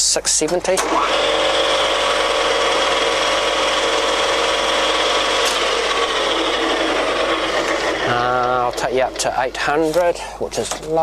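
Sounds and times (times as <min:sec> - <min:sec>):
gear whine: 0:00.8 - 0:10.2
lathe running: 0:00.8 - 0:11.0.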